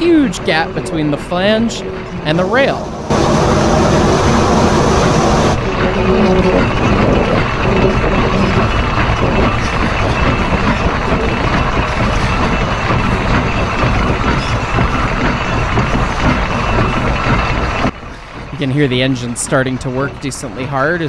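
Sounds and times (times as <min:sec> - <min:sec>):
steam locomotive wheels rumbling: 0:00.0 - 0:21.0.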